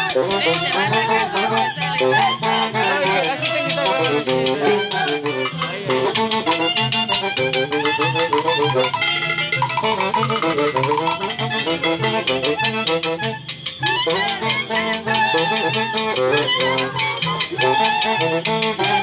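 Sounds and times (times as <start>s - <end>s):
metal scraper rhythm: 0.0s - 19.0s
saxophones and clarinet: 0.0s - 19.0s.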